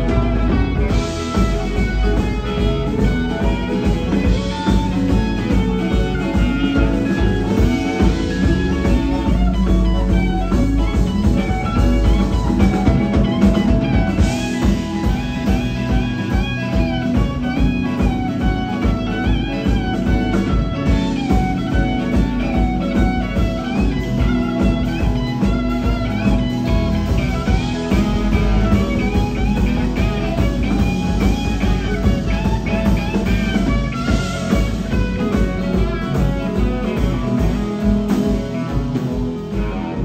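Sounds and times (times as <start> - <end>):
blues-rock band playing: 0.0 - 40.0
electric guitar bending notes: 0.0 - 40.0.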